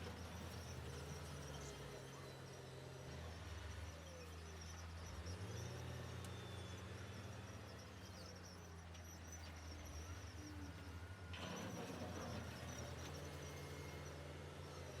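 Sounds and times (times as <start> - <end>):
distant diesel engines droning: 0.0 - 15.0.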